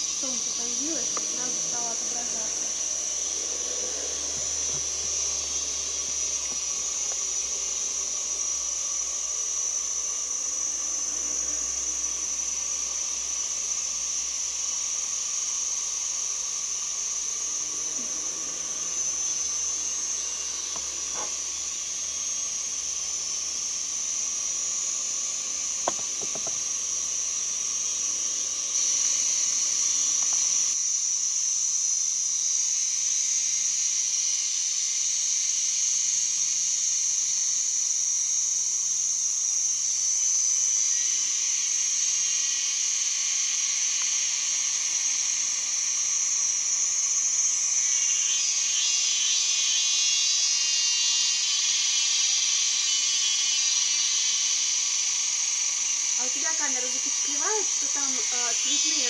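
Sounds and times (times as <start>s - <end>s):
constant hiss: 0.0s - 31.8s, 33.0s - 59.0s
high-pitched insect chorus: 0.0s - 59.0s.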